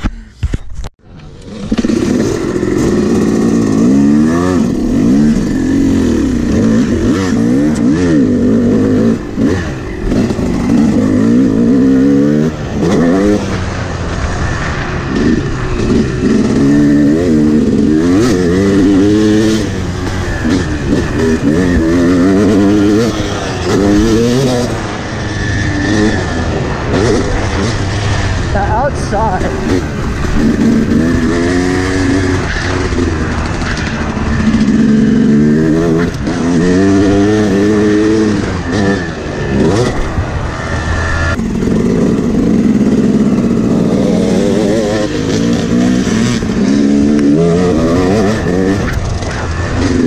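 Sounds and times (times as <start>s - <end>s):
dirt bike engine revving: 1.1s - 50.0s.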